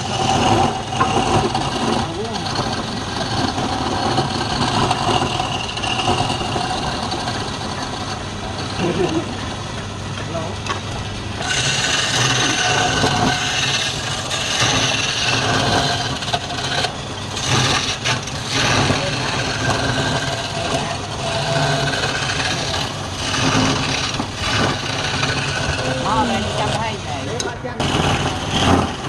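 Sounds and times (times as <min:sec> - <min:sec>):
lathe motor hum: 0:00.0 - 0:29.0
turning tool scraping spinning wood: 0:00.0 - 0:29.0.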